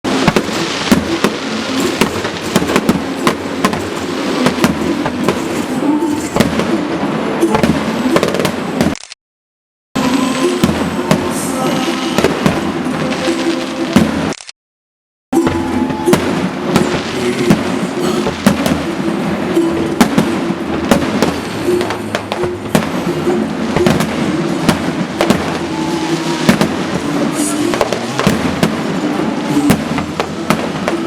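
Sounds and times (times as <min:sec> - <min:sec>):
music playing: 0:00.1 - 0:08.8, 0:10.0 - 0:14.3, 0:15.4 - 0:31.0
fireworks bursting: 0:00.1 - 0:09.2, 0:10.0 - 0:14.5, 0:15.4 - 0:31.0.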